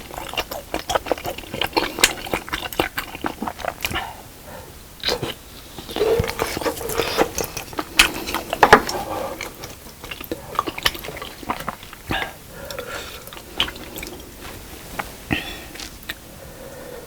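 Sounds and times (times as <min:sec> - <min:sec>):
person chewing with mouth clicks: 0:00.0 - 0:04.3, 0:05.0 - 0:16.3.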